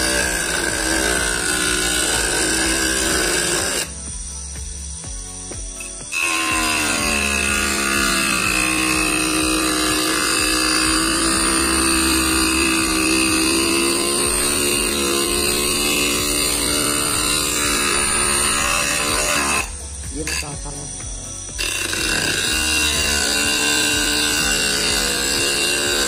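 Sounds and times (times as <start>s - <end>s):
motor drill cutting disc whine: 0.0s - 26.0s.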